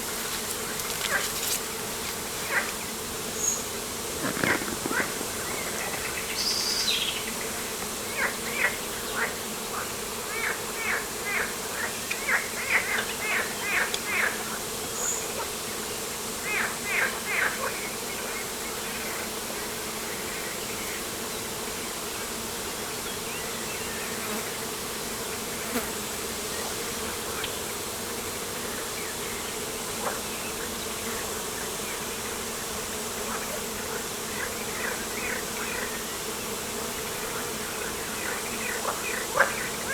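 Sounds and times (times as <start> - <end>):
insect buzzing hum: 0.0 - 39.9.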